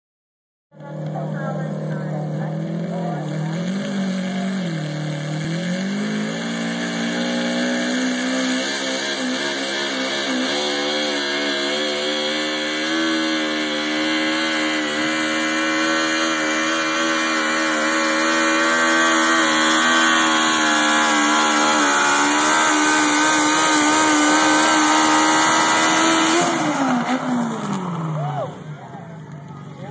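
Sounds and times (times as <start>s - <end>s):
tractor engine revving: 0.7s - 29.9s.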